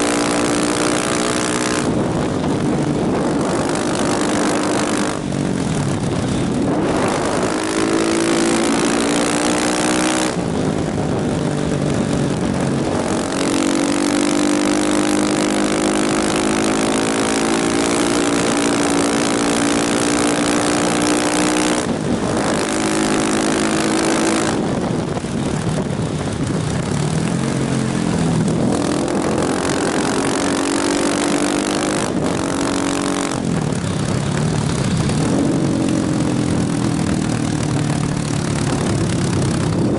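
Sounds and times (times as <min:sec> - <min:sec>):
motorcycle engine revving: 0:00.0 - 0:39.9
rushing wind: 0:00.0 - 0:39.9.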